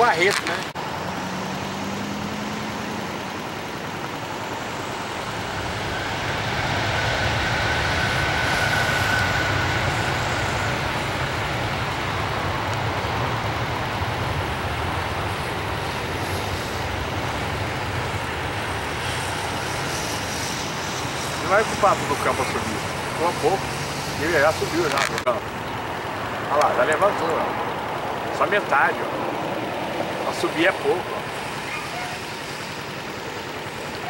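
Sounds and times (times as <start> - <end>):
jet engine roar: 0.0 - 34.0
jet fan whine: 0.0 - 34.0.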